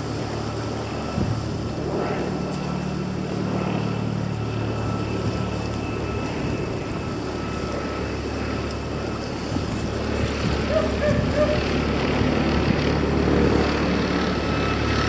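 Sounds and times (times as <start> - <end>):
engine droning: 0.0 - 15.0
faint high whine: 0.0 - 15.0.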